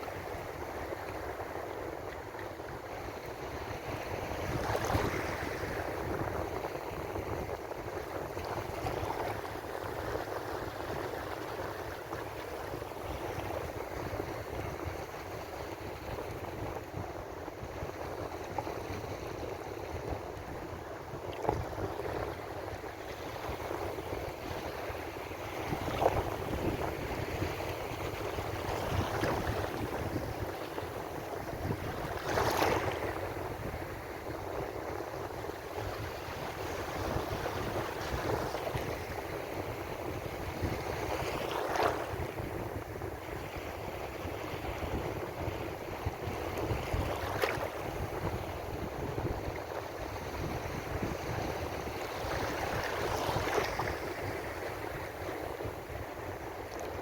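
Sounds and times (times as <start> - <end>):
ocean surf washing: 0.0 - 57.0
waves breaking: 0.0 - 57.0.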